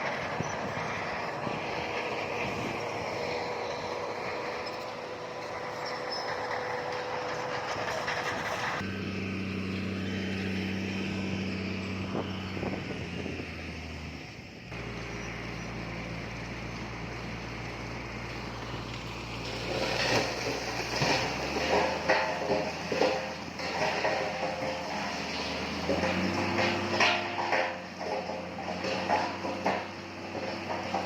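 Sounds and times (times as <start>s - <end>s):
heavy machinery engine running: 0.0s - 31.0s.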